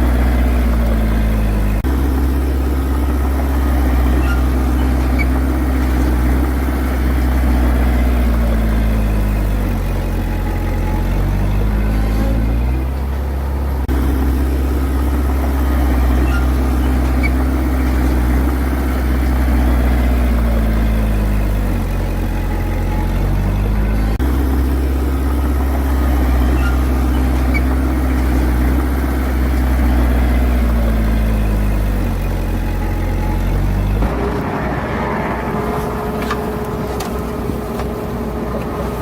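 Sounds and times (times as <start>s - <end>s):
large diesel engine running: 0.0s - 39.0s.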